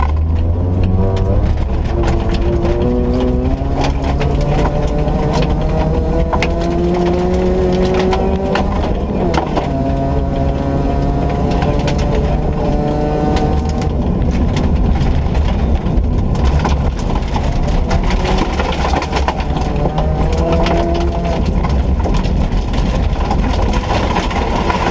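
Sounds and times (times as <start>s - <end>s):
rally car engine working hard: 0.0s - 24.9s
road and tyre noise: 0.0s - 24.9s
sharp knocks and clatters: 0.0s - 24.9s.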